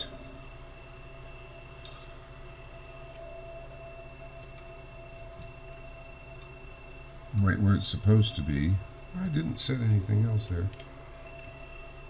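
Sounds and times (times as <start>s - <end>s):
faint steady whine: 0.0s - 12.0s
low electrical hum: 0.0s - 12.0s.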